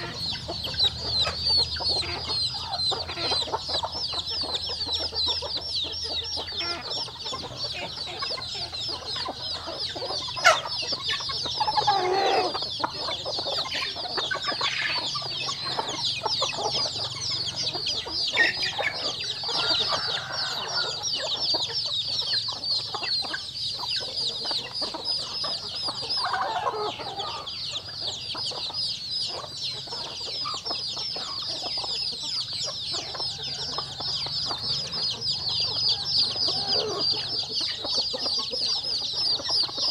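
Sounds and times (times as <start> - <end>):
chicks peeping: 0.0 - 39.9
hens clucking: 0.0 - 39.9.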